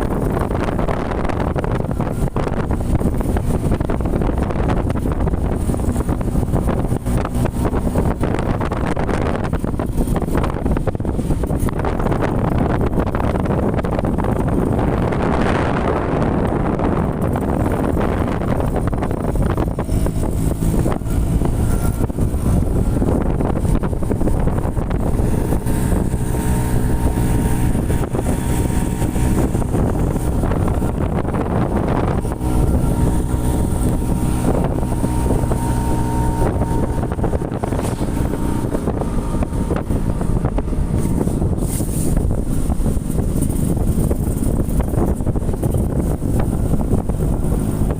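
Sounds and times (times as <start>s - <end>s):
motorcycle engine running: 0.0s - 47.9s
wind rushing over microphone: 0.0s - 47.9s.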